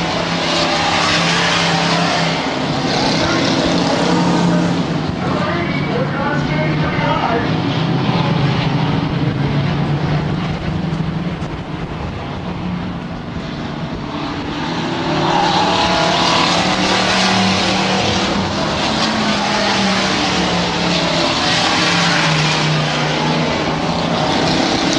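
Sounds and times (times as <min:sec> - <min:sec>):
race truck engines roaring: 0:00.0 - 0:24.9.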